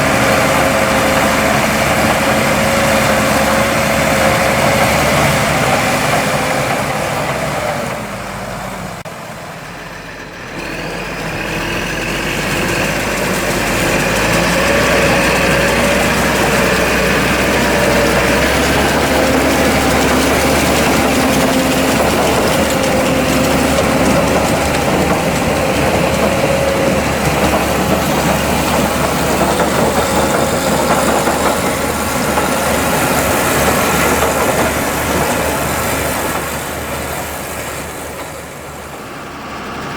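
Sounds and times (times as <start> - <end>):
machinery whining: 0.0 - 39.9
tractor diesel engines running: 0.0 - 39.9.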